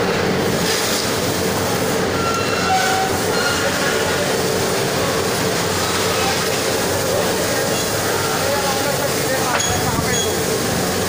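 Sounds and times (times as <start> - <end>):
factory machinery rumble: 0.0 - 11.0.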